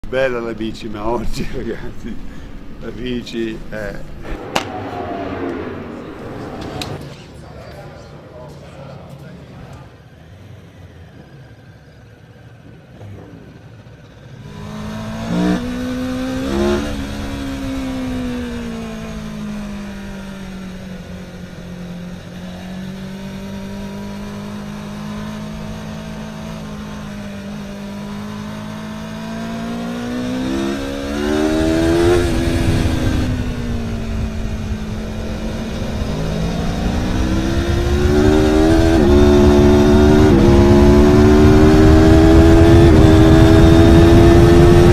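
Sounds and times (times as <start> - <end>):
motorcycle engine revving: 3.8 - 7.4, 10.0 - 44.9.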